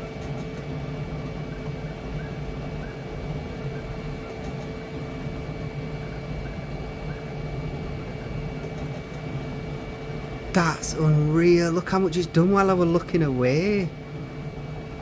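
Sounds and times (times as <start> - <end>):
fans whirring and humming: 0.0 - 15.0.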